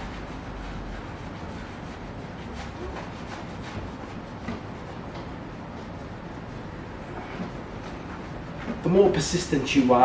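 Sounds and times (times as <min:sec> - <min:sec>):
cloth rubbing car paint: 0:00.0 - 0:10.0
room hum: 0:00.0 - 0:10.0.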